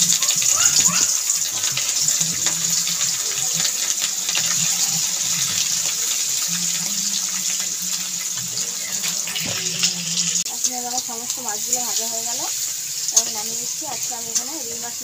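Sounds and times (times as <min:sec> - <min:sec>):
fish frying in hot oil: 0:00.0 - 0:15.0
oil crackles: 0:00.0 - 0:15.0.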